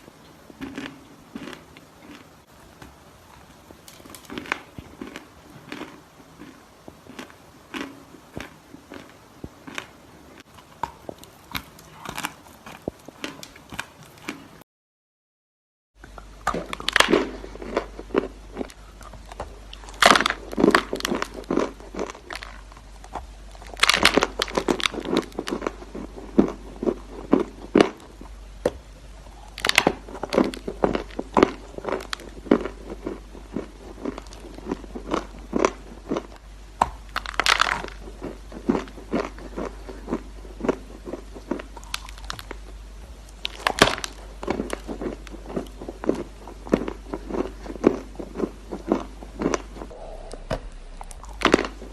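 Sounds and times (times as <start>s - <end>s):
chewing crunches: 0.5s - 2.5s, 3.8s - 14.6s, 16.0s - 28.4s, 29.2s - 51.9s.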